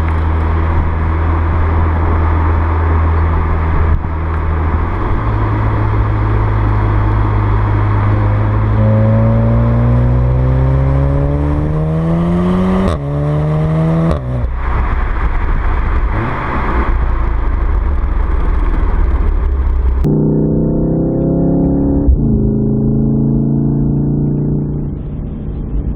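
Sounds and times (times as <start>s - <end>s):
car engine accelerating hard: 0.0s - 25.9s.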